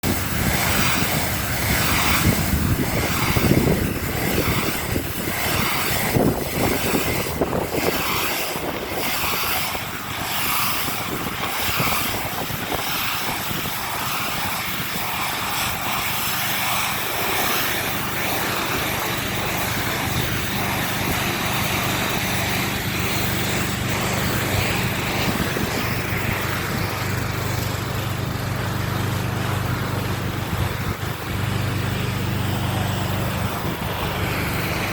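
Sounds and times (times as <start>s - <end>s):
pressure washer motor drone: 0.0s - 34.9s
water jet hissing and spattering: 0.0s - 34.9s.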